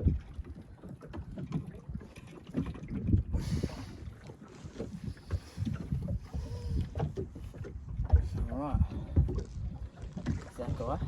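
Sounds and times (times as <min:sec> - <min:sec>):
waves slapping against boat hull: 0:00.0 - 0:11.0.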